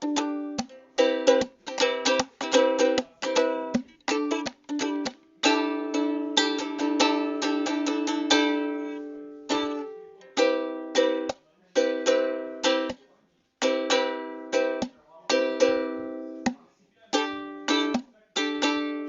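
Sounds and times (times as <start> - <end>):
ukulele strumming chords: 0.0 - 19.0.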